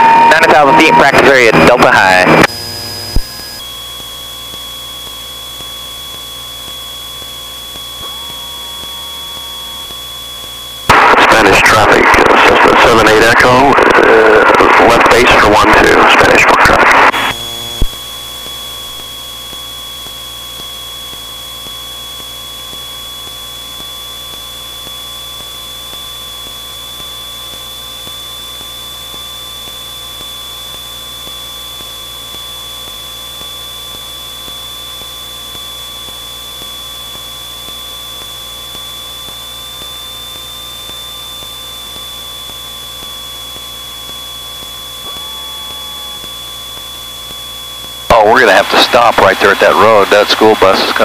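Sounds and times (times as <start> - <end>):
aircraft engine and propeller drone: 0.0 - 51.0
high-pitched whine: 0.0 - 51.0.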